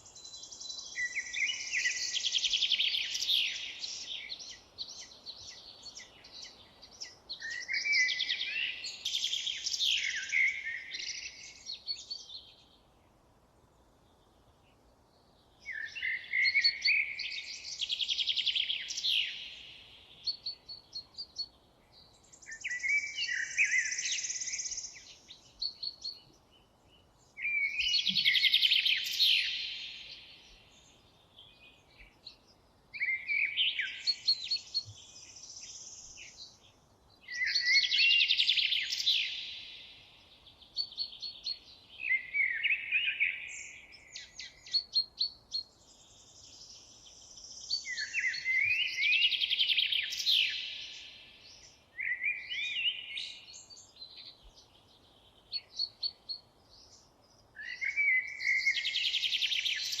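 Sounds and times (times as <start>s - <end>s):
songbird singing trills: 0.0s - 12.9s, 15.0s - 60.0s.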